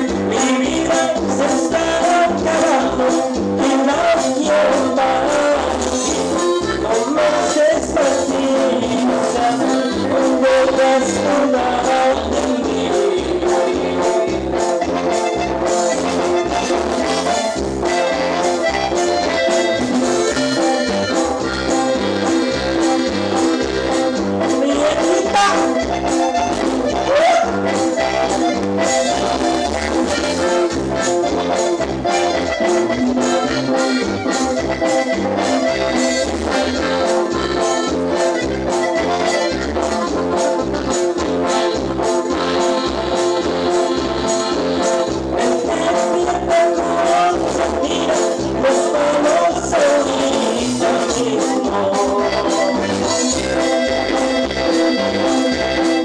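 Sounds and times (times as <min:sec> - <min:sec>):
latin dance music with brass: 0:00.0 - 0:56.0.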